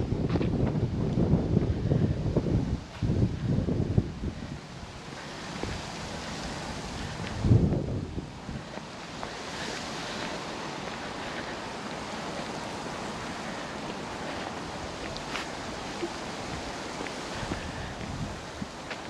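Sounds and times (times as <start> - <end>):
wind rushing: 0.0 - 19.0.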